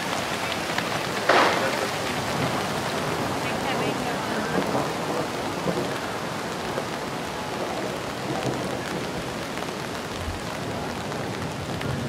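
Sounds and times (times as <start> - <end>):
rain on stone pavement: 0.0 - 12.0.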